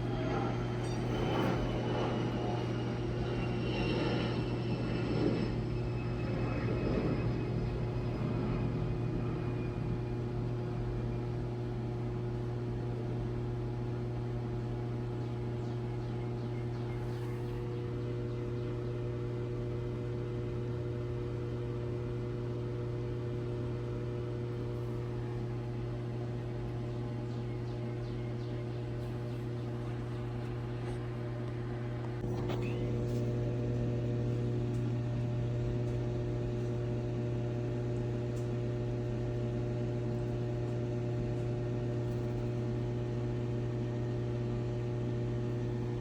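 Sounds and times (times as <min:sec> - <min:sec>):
steady mechanical hum: 0:00.0 - 0:46.0.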